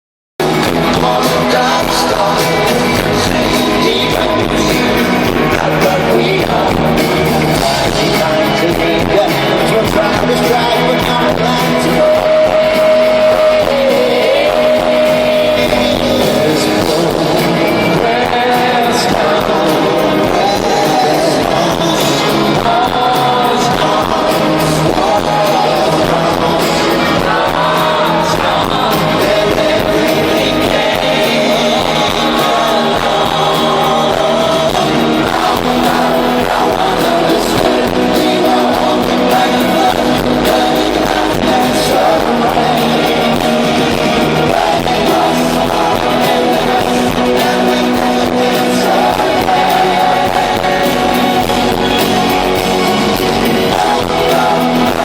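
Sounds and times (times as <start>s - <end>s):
live pop-rock band with guitar: 0.4s - 55.0s
male lead vocals singing: 0.4s - 55.0s.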